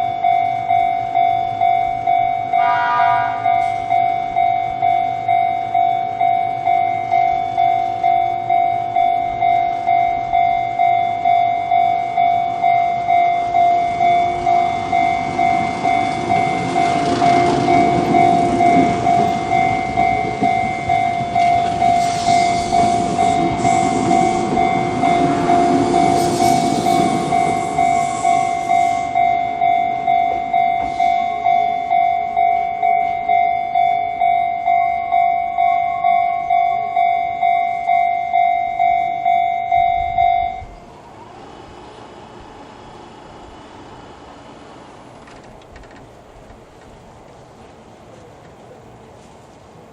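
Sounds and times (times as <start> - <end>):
level crossing alarm bell: 0.0 - 40.9
train passing with wheel clacks: 0.0 - 49.9.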